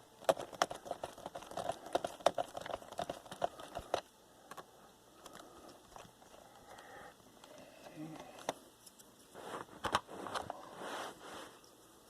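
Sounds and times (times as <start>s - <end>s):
faint handling sounds: 0.3s - 12.0s.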